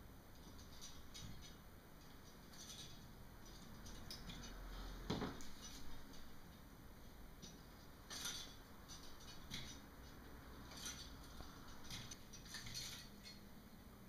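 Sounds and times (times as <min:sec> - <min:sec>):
metallic clinks of exerciser cables: 0:00.4 - 0:04.7, 0:05.4 - 0:06.3, 0:07.4 - 0:13.5.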